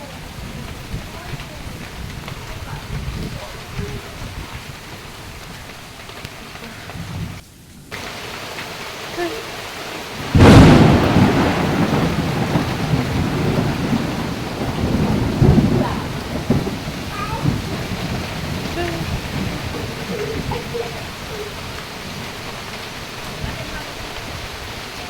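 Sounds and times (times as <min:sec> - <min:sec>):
rain: 0:00.0 - 0:25.0
thunderclap rumbling: 0:00.0 - 0:25.0.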